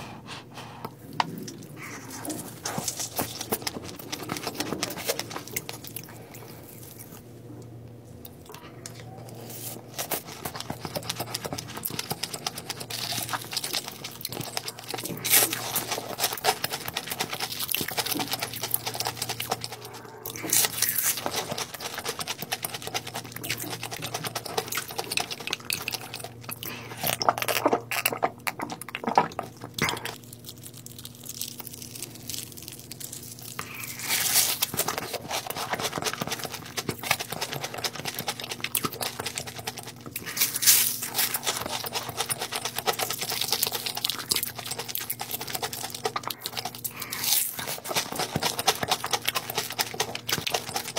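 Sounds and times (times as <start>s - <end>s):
chewing and crunching fried food: 0.0s - 50.9s.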